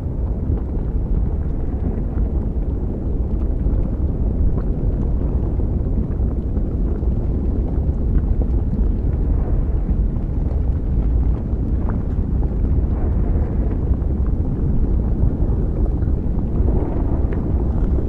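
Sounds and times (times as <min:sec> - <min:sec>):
deep volcanic rumble: 0:00.0 - 0:18.0
faint crackles: 0:00.0 - 0:18.0.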